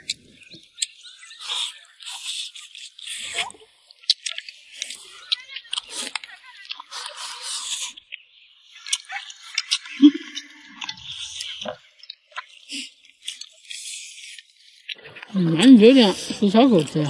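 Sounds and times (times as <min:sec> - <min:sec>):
wet chewing and gnawing: 0:00.0 - 0:17.0.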